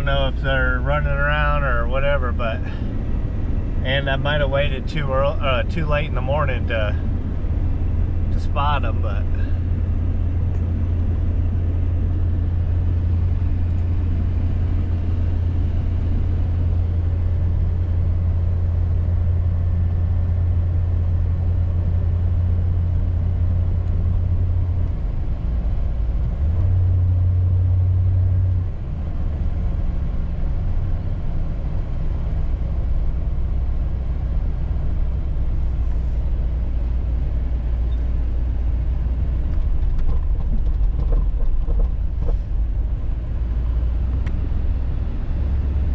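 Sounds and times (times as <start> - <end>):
van engine and road drone: 0.0 - 45.9.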